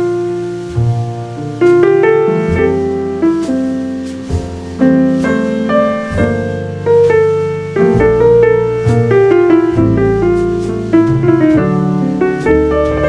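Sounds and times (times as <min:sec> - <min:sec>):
low bass notes: 0:00.0 - 0:13.0
piano chords and melody: 0:00.0 - 0:13.0.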